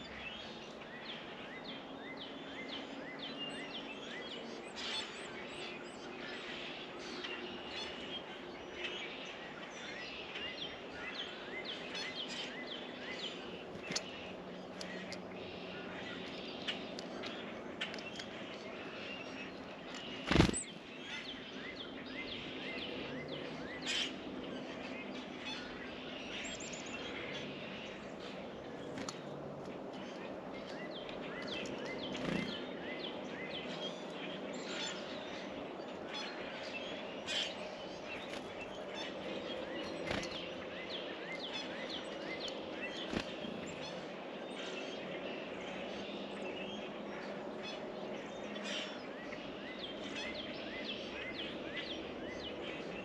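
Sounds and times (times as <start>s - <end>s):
outdoor background hum: 0.0s - 53.0s
small birds chirping: 0.0s - 53.0s.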